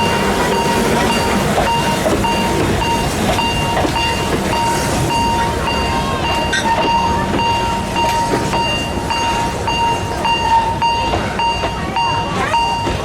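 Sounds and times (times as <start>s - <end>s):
level-crossing warning beeps: 0.0s - 13.0s
steam train running: 0.0s - 13.0s.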